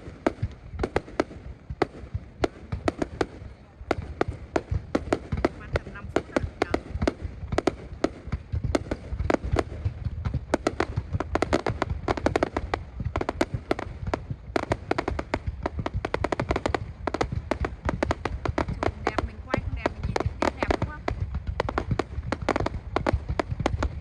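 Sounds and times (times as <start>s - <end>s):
fireworks cracks and bangs: 0.0s - 24.0s
low rumble: 0.0s - 24.0s.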